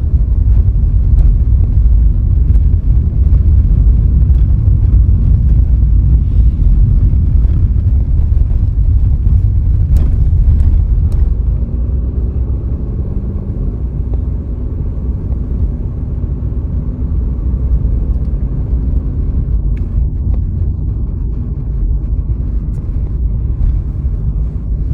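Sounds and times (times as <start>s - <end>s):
car road and engine rumble: 0.0s - 24.9s
faint engine hum: 0.0s - 24.9s.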